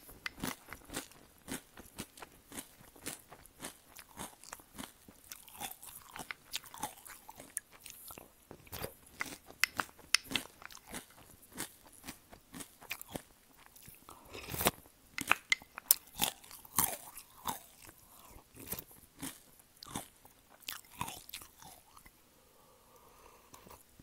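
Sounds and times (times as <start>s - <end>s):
chewing crunchy cereal: 0.0s - 22.1s.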